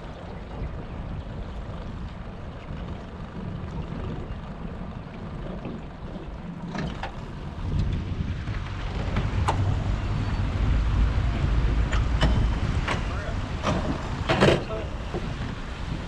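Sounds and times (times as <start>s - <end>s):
water current around boat: 0.0s - 16.0s
wind buffeting microphone: 0.0s - 16.0s.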